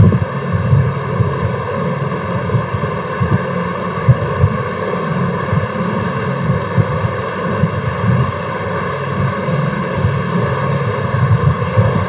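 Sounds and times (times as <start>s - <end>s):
background hum with hiss: 0.0s - 12.0s
low wavering rumble: 0.0s - 12.0s.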